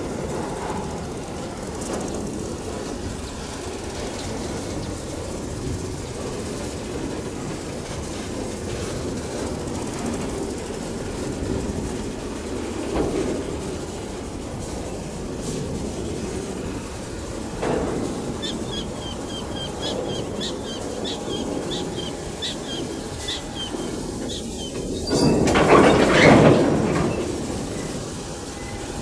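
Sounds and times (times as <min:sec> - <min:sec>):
train rumbling and clattering: 0:00.0 - 0:29.0.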